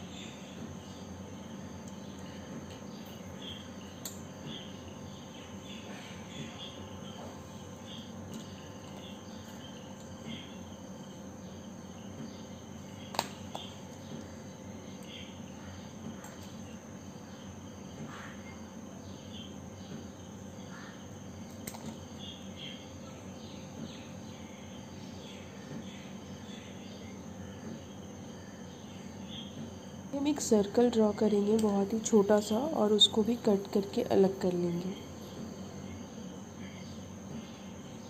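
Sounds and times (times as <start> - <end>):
background hum with high tone: 0.0 - 38.0.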